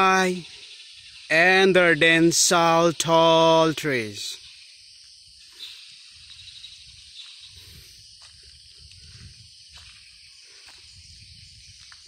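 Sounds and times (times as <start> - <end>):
high insect-like hiss: 0.0 - 12.0.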